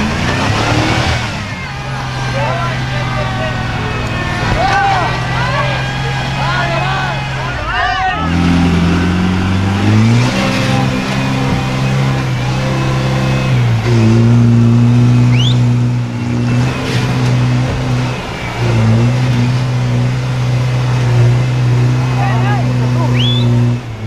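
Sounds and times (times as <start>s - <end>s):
engine revving under load: 0.0s - 24.0s.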